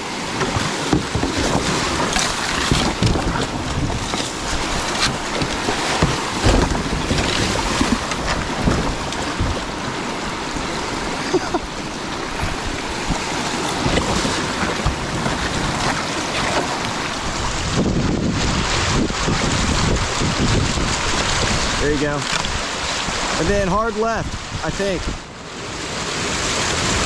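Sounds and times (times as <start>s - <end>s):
wind buffeting microphone: 0.0s - 25.4s
paddle splashes and knocks: 0.0s - 27.0s
river rapids rushing: 0.0s - 27.0s.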